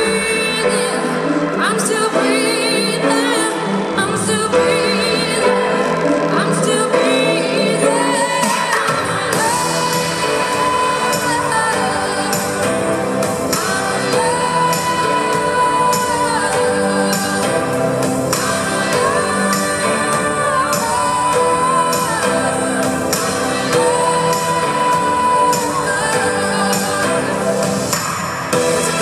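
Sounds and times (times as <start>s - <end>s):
woman singing: 0.0s - 29.0s.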